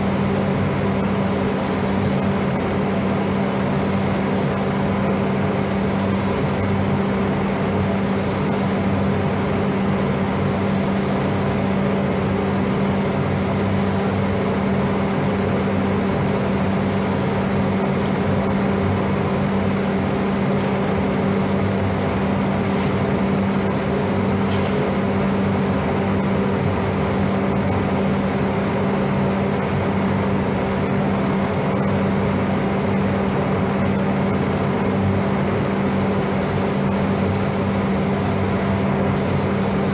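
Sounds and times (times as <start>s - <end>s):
ventilation fans humming: 0.0s - 39.9s.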